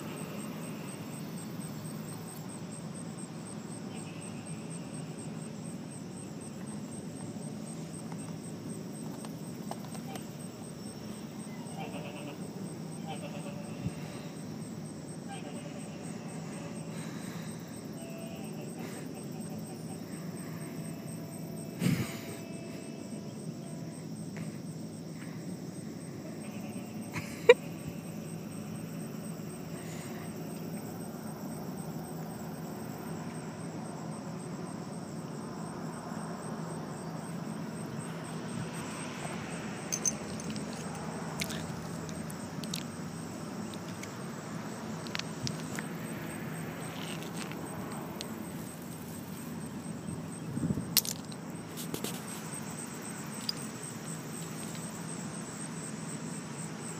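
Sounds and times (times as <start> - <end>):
high insect trill: 0.0 - 56.9.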